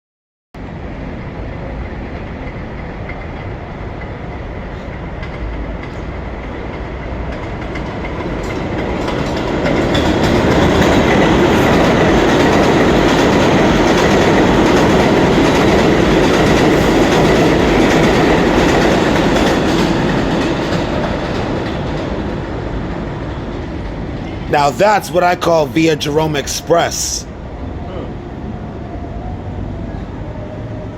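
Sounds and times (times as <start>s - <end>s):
subway train running past: 0.6s - 30.9s.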